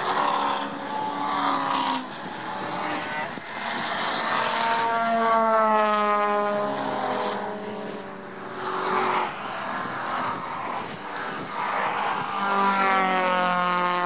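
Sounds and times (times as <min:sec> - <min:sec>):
race cars passing at speed: 0:00.0 - 0:14.0.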